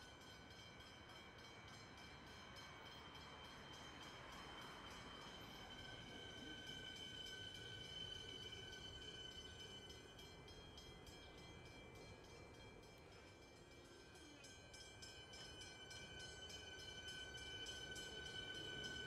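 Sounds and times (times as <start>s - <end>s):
high multi-tone train whine: 0.0s - 19.0s
train rumbling to a stop: 0.0s - 19.0s.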